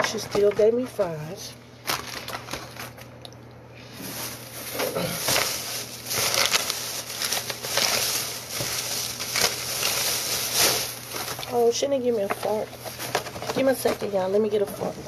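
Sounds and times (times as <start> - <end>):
plastic bag rustling and crinkling: 1.8 - 3.1, 3.9 - 15.0.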